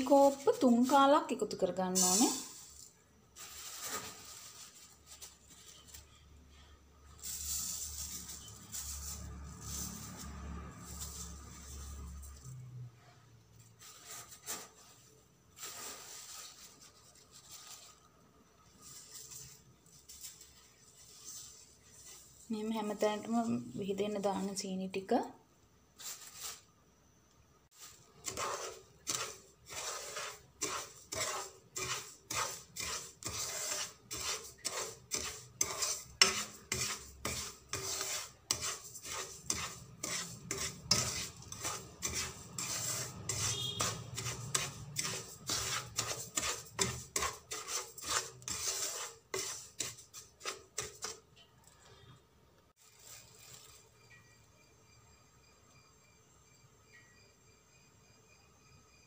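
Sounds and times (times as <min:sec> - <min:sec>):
wooden spoon scraping sugar in a pan: 0:00.0 - 0:12.8, 0:13.5 - 0:24.7, 0:26.0 - 0:26.7, 0:27.7 - 0:51.4, 0:52.8 - 0:54.0.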